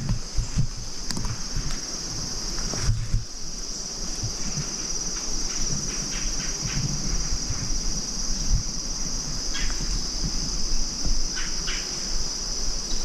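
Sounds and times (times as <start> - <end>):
footsteps crunching leaves and brush: 0.0 - 12.4
high-pitched insect chorus: 0.0 - 13.0.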